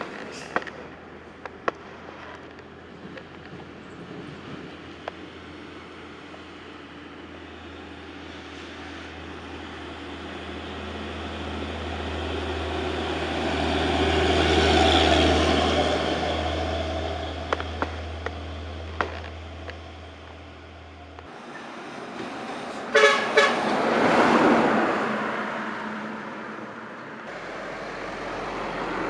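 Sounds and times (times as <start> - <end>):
heavy truck passing: 0.0 - 29.0.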